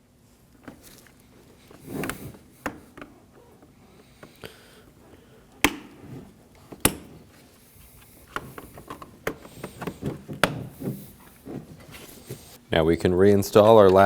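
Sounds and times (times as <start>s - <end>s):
handled plastic rattling: 0.6s - 12.6s.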